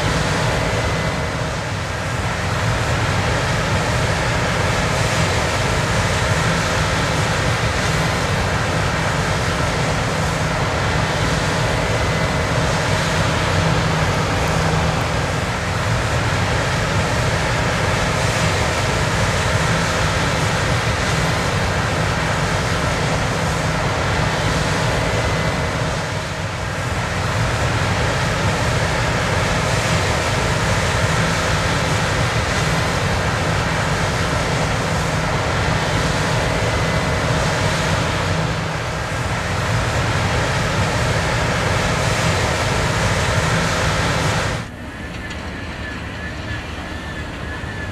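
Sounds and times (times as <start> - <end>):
combine harvester droning: 0.0 - 47.9.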